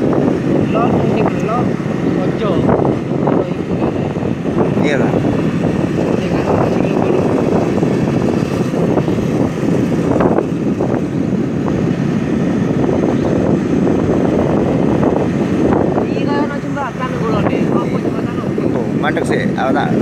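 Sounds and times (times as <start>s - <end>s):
vehicle in motion: 0.0s - 20.0s
wind on microphone: 0.0s - 20.0s.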